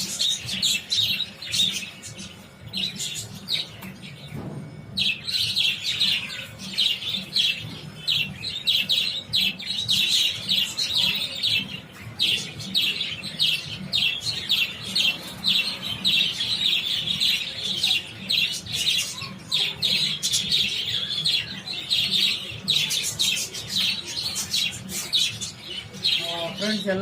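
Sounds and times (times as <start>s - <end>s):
flock of budgerigars chattering: 0.0s - 27.0s.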